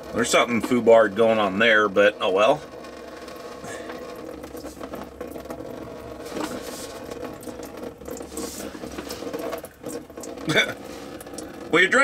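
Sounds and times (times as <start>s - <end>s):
coolant pattering into pan: 0.0s - 12.0s
steady hum: 0.0s - 12.0s.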